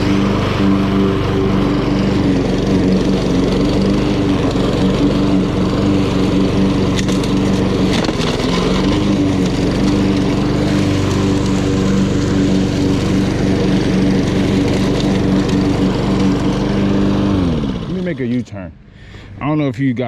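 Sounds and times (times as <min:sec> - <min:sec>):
lawn mower engine running: 0:00.0 - 0:18.4.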